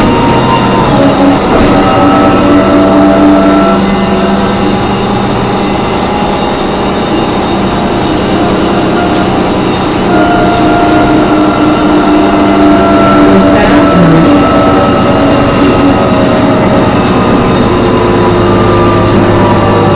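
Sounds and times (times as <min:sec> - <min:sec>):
bus diesel engine and road noise: 0:00.0 - 0:19.9
high screeching whine: 0:00.0 - 0:19.9.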